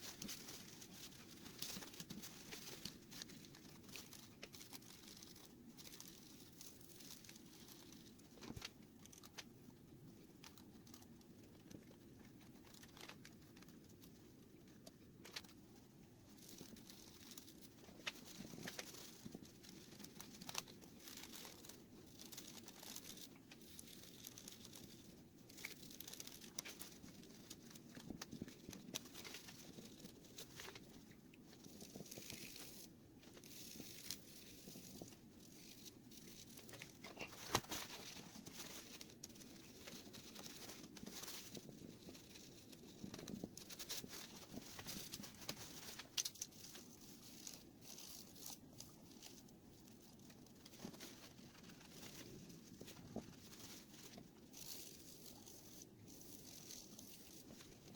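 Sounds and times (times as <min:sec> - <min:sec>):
rustling handling noises: 0:00.0 - 0:57.9.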